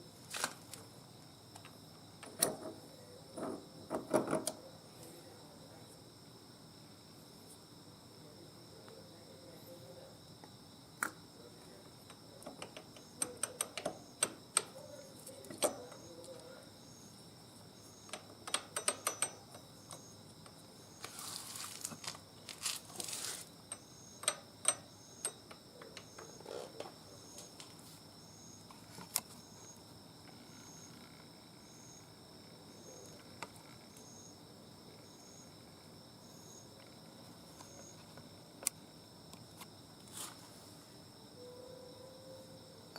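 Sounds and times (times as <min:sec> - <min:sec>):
insects trilling: 0:00.0 - 0:42.9
pulsing insect chirp: 0:00.0 - 0:42.9.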